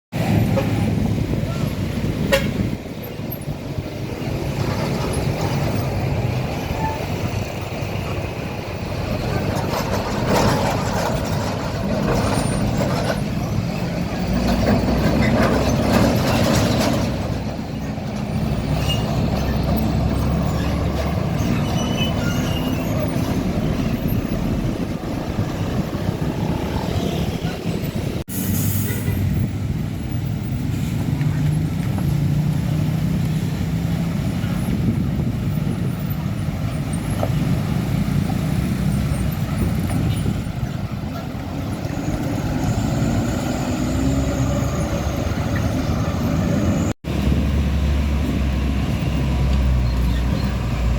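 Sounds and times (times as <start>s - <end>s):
diesel truck engine rumble: 0.1s - 50.9s
road noise: 0.1s - 50.9s.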